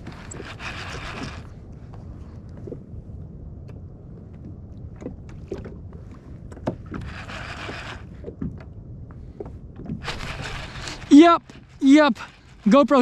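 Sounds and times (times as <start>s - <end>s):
water lapping against kayak hull: 0.0s - 3.1s, 4.0s - 13.0s
wind rumble on microphone: 0.0s - 13.0s.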